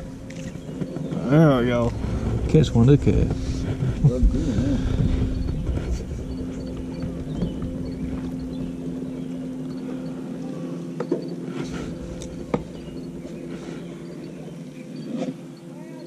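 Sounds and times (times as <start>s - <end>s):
low rumble: 0.0s - 15.0s
electric trolling motor humming: 0.0s - 16.0s.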